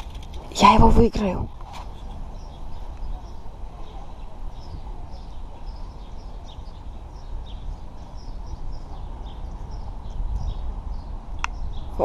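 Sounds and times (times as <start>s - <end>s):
outdoor background rumble: 0.0s - 12.0s
small birds chirping: 0.0s - 12.0s.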